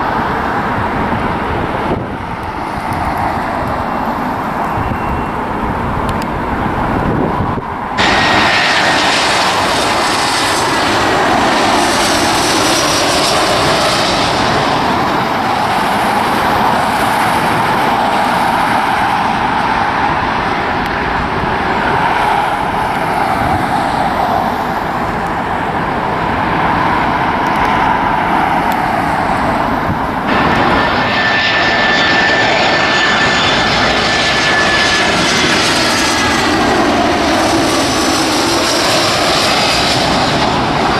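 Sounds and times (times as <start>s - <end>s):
high engine whine: 0.0s - 40.9s
jet engines roaring: 0.0s - 40.9s.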